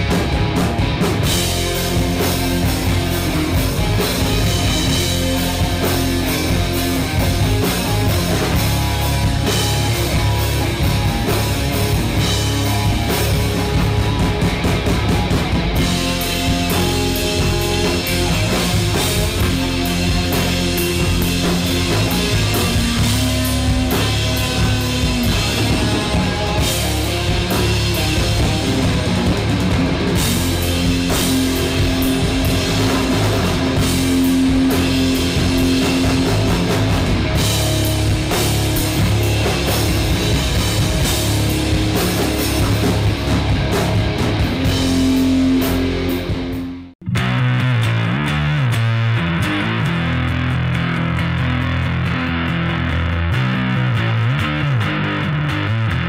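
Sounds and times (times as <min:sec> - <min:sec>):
rock music with guitar and drums: 0:00.0 - 0:56.0.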